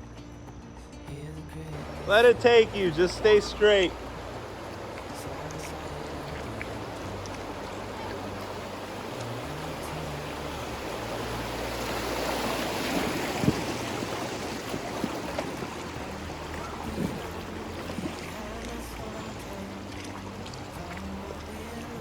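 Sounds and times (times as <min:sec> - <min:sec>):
river current rushing: 0:01.7 - 0:22.0.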